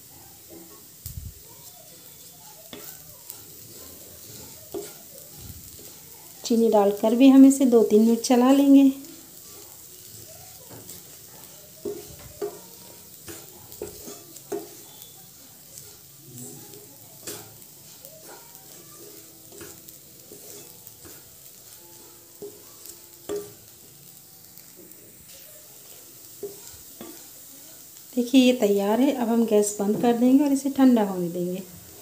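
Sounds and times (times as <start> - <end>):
sizzling in oil: 0.0 - 32.0
wooden spatula scraping a pan: 0.4 - 23.8, 24.5 - 28.7.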